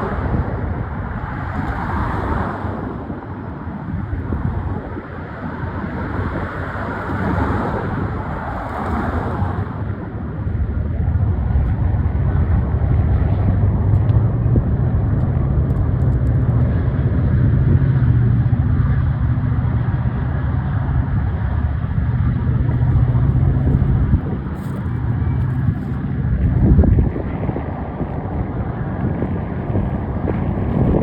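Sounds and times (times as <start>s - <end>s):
diesel locomotives rumbling: 0.0s - 31.0s.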